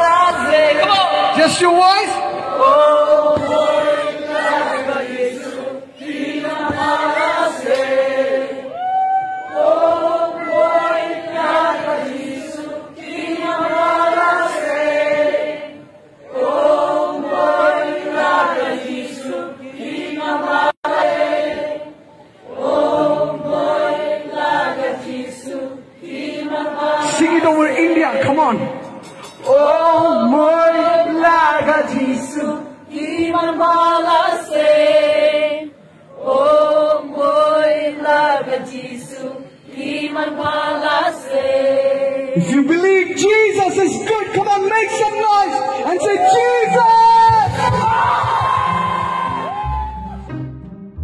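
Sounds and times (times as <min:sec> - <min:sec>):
crowd singing a worship song: 0:00.0 - 0:42.7, 0:43.7 - 0:49.8.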